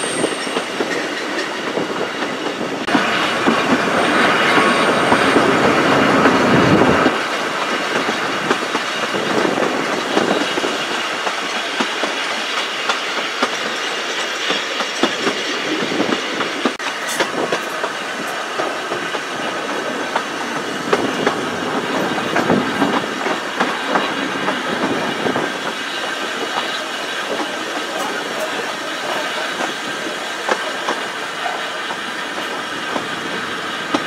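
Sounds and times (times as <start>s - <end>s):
train rumble and rattle: 0.0s - 34.0s
wheels clicking over rail joints: 0.1s - 34.0s.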